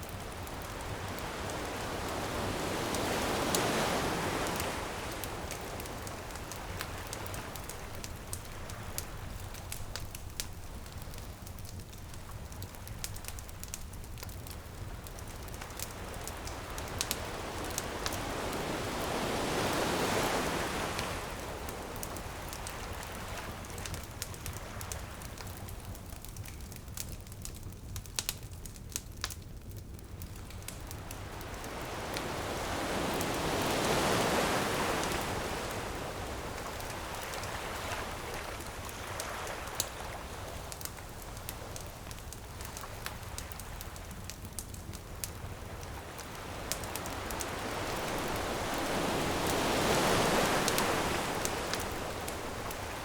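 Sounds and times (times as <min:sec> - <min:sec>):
ocean waves washing ashore: 0:00.0 - 0:25.8, 0:30.3 - 0:53.0
crackling bonfire: 0:00.0 - 0:53.0.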